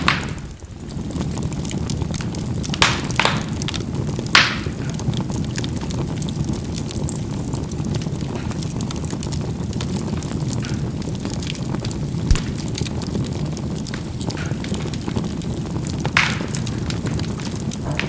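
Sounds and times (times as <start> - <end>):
charcoal fire crackling: 0.0 - 18.0
coals popping sharply: 0.0 - 18.0.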